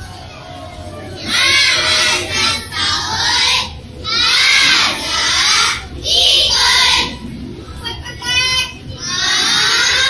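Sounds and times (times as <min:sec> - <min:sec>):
girls reciting in unison: 0:00.0 - 0:10.0.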